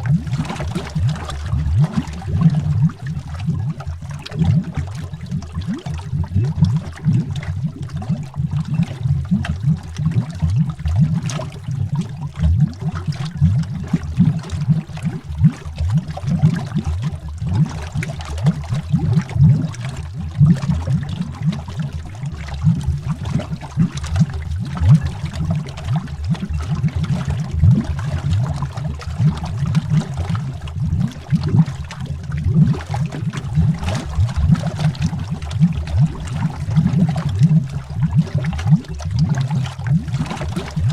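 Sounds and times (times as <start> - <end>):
underwater bubbling: 0.0 - 40.9.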